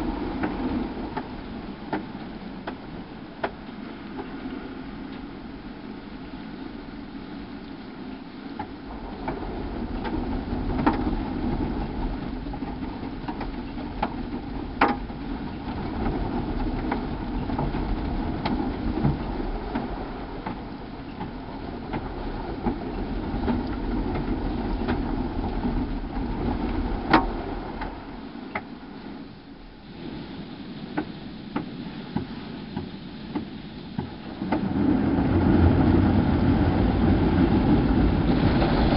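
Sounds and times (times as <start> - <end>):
car wash machine rumble: 0.0 - 38.9.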